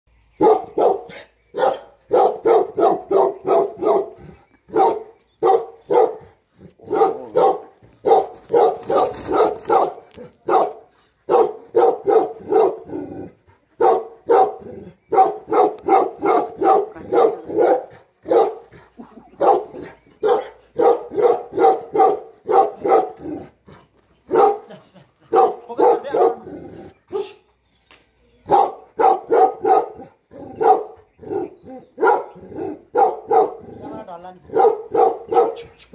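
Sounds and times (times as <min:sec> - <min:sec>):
dog barking: 0:00.4 - 0:13.2, 0:13.8 - 0:18.7, 0:19.4 - 0:23.4, 0:24.3 - 0:26.5, 0:28.5 - 0:35.8.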